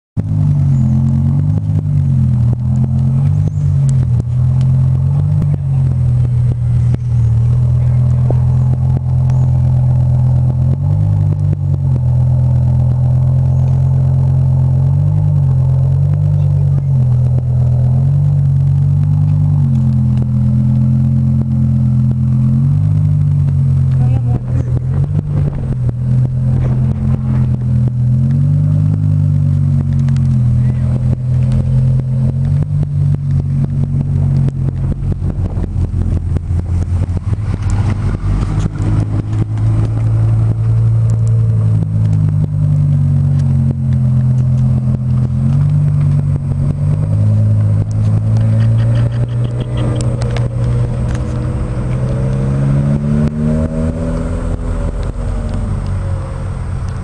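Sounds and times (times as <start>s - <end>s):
car engine idling: 0.2s - 57.0s.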